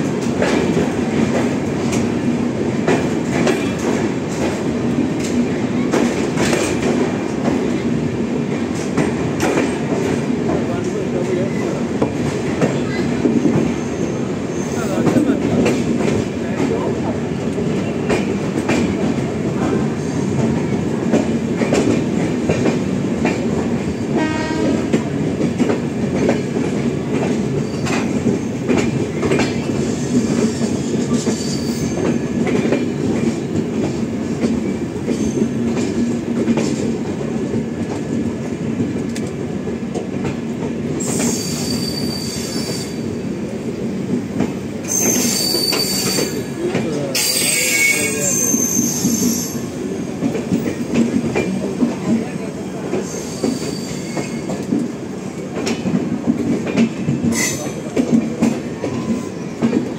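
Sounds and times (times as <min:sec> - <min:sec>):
train coaches rumbling and rattling: 0:00.0 - 0:59.9.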